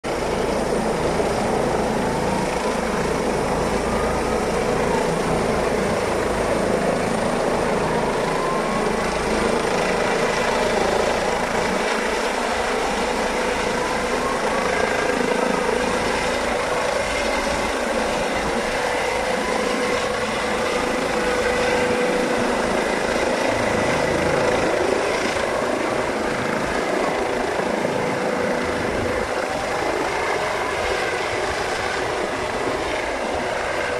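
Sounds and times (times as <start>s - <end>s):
helicopter turbine whine: 0.0s - 33.9s
helicopter rotor beating: 0.1s - 33.9s.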